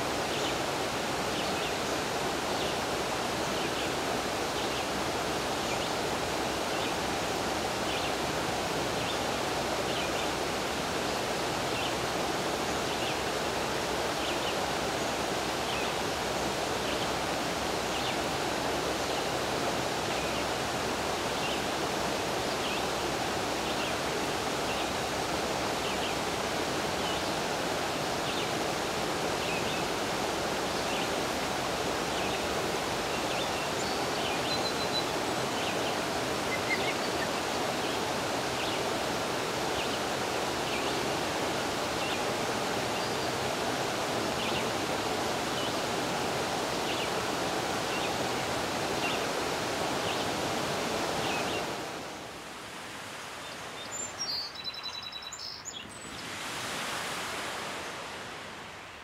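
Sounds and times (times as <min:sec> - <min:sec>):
waterfall rushing: 0:00.0 - 0:54.1, 0:55.7 - 0:59.0.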